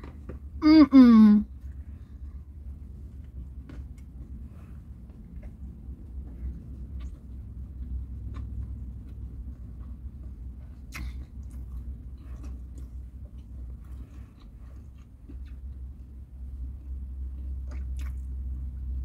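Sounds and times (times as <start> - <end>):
low steady rumble: 0.0 - 19.0
person chewing: 2.7 - 18.8.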